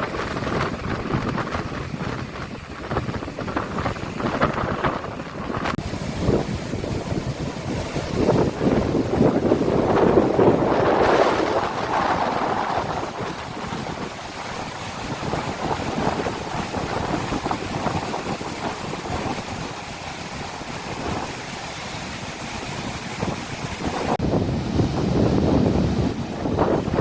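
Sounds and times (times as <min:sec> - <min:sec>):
sea surf rushing: 0:00.0 - 0:27.0
wind buffeting microphone: 0:00.0 - 0:27.0.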